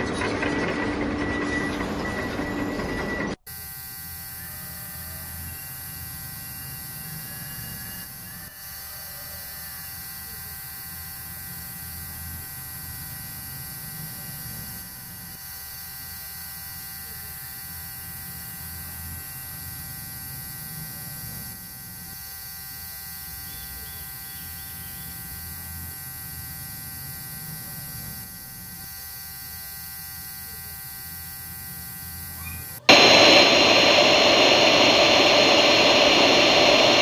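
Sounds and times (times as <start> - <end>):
small electric motor buzzing: 3.4 - 37.0.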